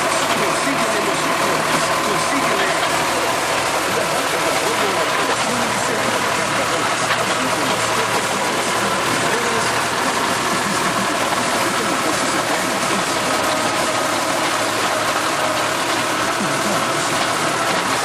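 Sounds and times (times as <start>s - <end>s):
rotary chopper shredding plants: 0.0s - 18.0s
tractor engine running: 0.0s - 18.0s.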